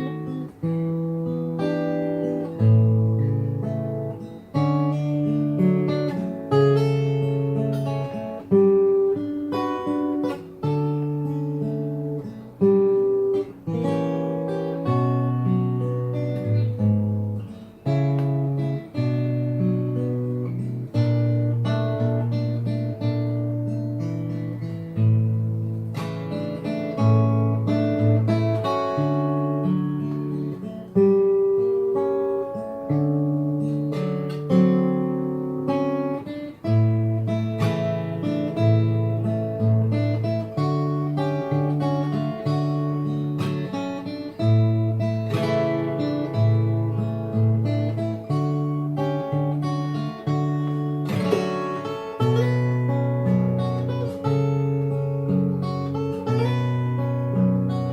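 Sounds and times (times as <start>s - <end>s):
fingerstyle acoustic guitar: 0.0s - 57.9s.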